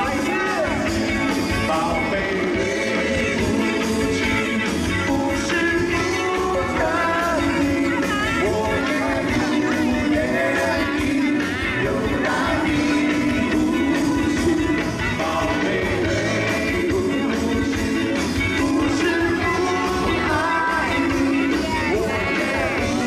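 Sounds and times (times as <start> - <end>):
lead singer: 0.0 - 23.0
live rock band playing: 0.0 - 23.0
steady drum beat: 0.0 - 23.0.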